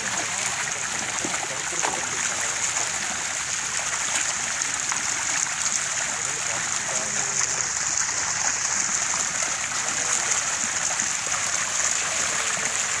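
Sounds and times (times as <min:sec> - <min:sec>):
fish splashing in water: 0:00.0 - 0:13.0.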